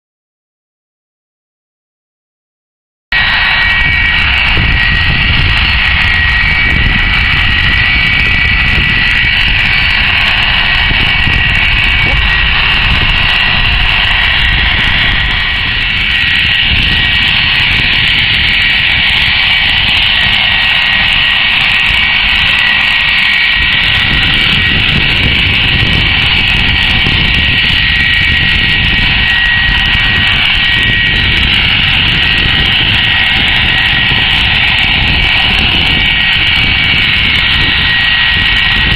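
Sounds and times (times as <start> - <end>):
jet engines whining and rumbling: 3.1 - 38.9.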